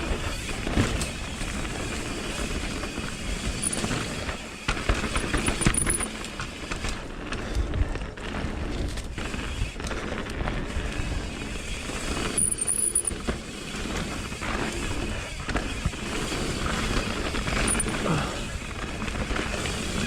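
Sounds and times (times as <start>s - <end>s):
bike tyres rumbling on dirt: 0.0s - 12.4s, 13.2s - 20.0s
bike rattling over bumps: 0.0s - 20.0s.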